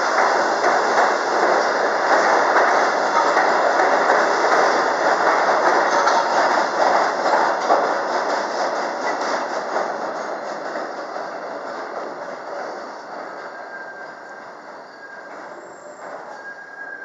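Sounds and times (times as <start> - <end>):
subway train wheels on rail: 0.0 - 17.0.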